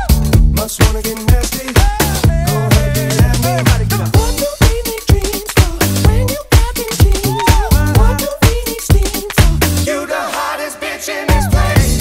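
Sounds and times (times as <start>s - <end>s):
dance music with drum beat: 0.0s - 12.0s.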